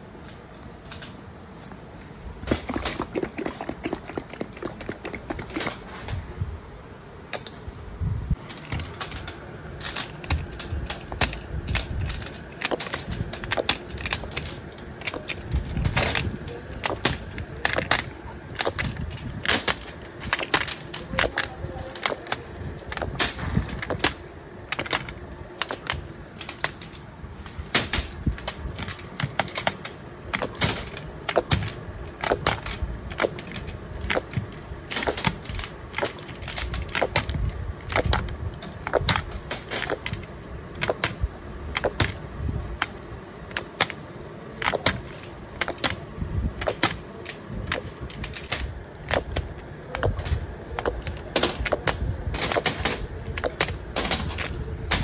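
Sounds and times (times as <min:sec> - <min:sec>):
small hard objects clacking: 0:02.5 - 0:05.9, 0:08.4 - 0:27.0, 0:27.8 - 0:42.2, 0:42.8 - 0:55.0.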